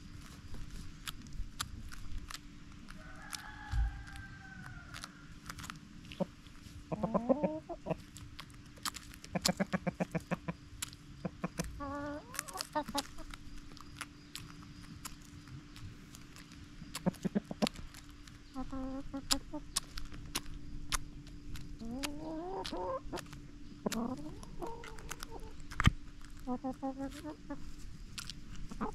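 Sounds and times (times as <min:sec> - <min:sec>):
beaks pecking at food: 0:00.0 - 0:28.9
hens clucking: 0:02.0 - 0:28.9.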